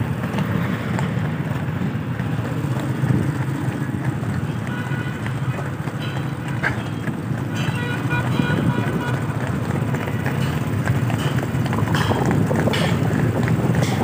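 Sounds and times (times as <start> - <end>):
vehicle rumble with road noise: 0.0 - 14.0.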